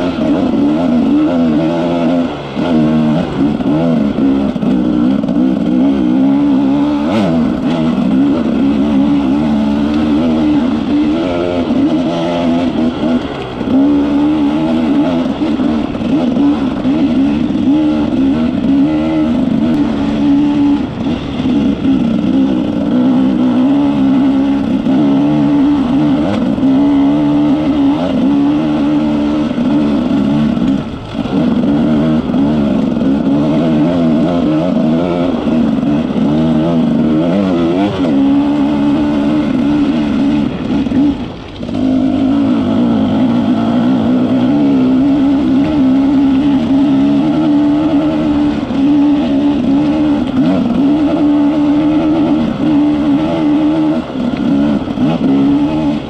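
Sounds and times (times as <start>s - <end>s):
off-road vehicle engine: 0.0s - 56.0s.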